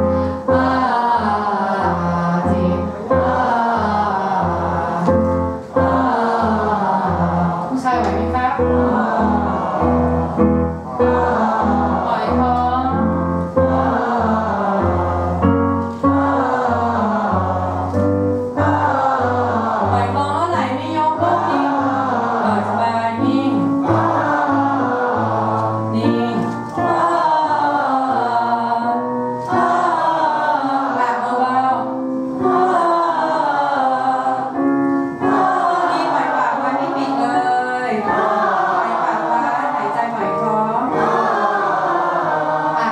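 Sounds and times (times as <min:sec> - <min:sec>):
group singing vocal scales: 0:00.0 - 0:42.9
piano notes: 0:00.0 - 0:42.9.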